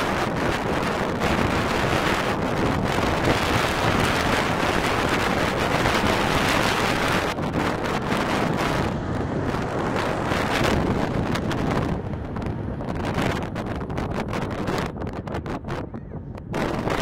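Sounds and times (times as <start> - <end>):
jet airliner engine: 0.0 - 17.0
wind buffeting microphone: 0.0 - 17.0.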